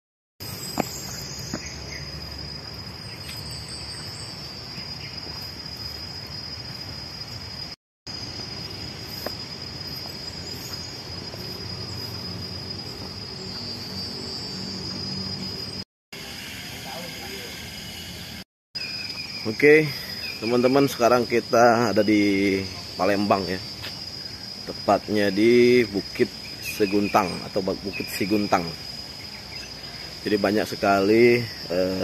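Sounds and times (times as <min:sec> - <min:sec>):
insects droning: 0:00.4 - 0:32.0.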